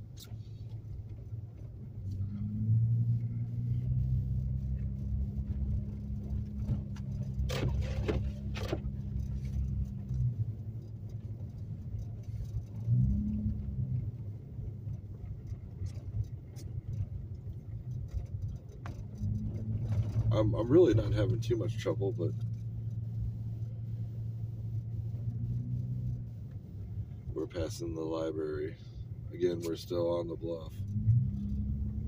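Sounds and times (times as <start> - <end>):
car engine drone: 0.0 - 32.0
road rumble: 0.0 - 32.0.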